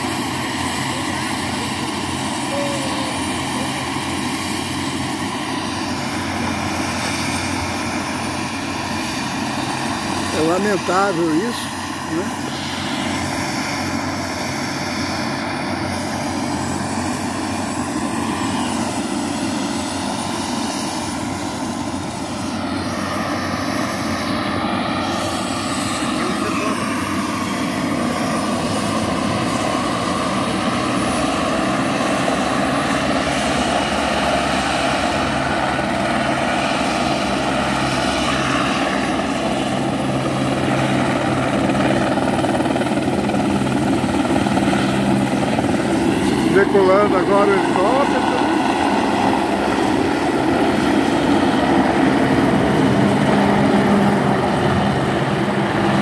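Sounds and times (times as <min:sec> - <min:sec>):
helicopter engine and rotor running: 0:00.0 - 0:56.0.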